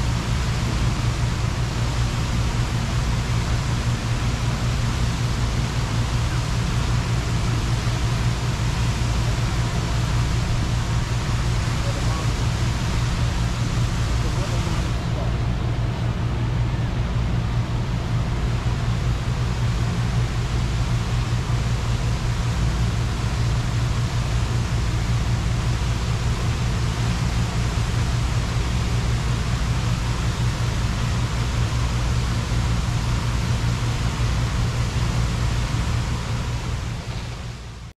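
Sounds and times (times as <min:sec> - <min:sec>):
fountain water jets hissing: 0:00.0 - 0:15.8, 0:18.0 - 0:37.8.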